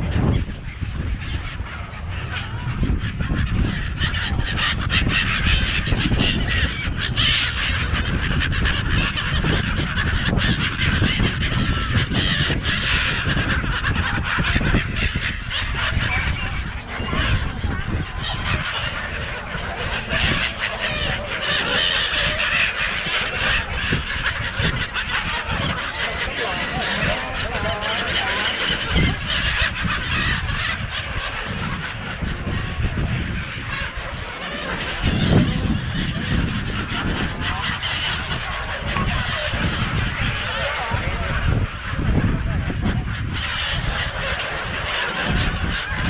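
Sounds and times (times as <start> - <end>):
flock of gulls squawking: 0.1 - 46.0.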